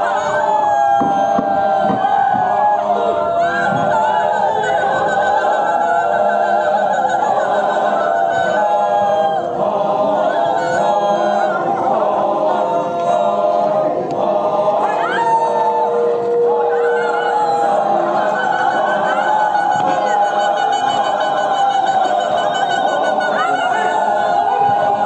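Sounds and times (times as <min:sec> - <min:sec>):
men singing together unaccompanied: 0:00.0 - 0:25.0.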